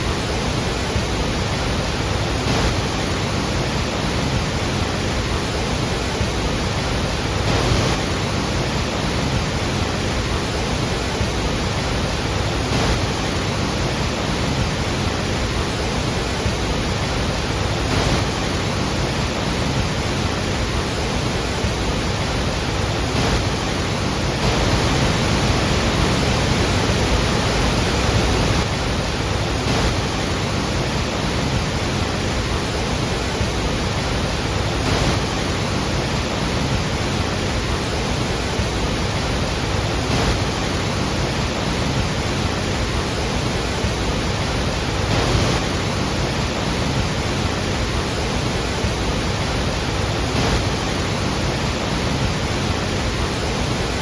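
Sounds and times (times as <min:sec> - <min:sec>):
waterfall crashing: 0:00.0 - 0:54.0.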